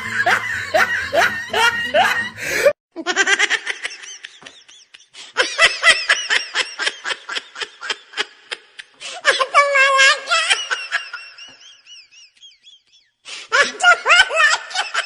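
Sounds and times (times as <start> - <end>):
person laughing: 0.0 - 15.0.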